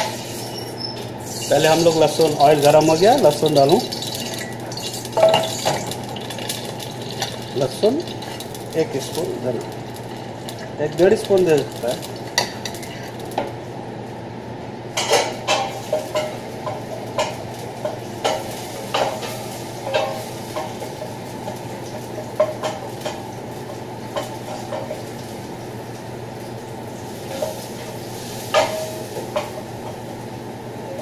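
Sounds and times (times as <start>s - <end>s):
garlic frying in hot oil: 0.0s - 13.7s, 15.0s - 31.0s.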